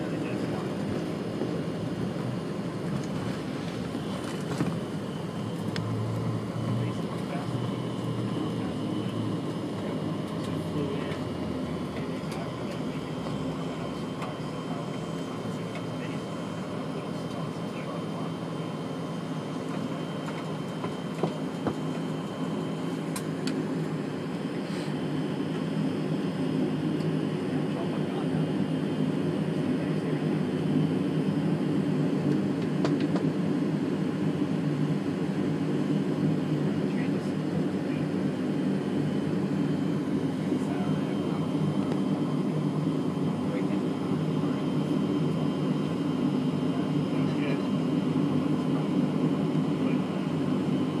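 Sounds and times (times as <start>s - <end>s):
jet engines rumbling in cabin: 0.0s - 51.0s.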